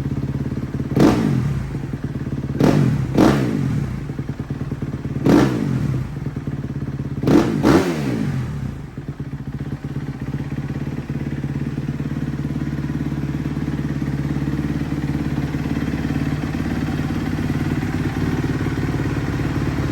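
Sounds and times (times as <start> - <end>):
motorcycle engine revving and idling: 0.0 - 19.9.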